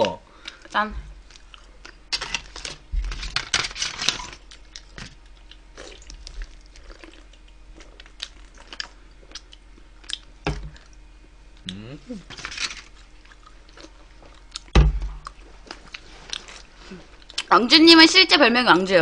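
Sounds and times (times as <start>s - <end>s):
chewing and crunching: 0.4s - 3.2s, 3.8s - 17.5s.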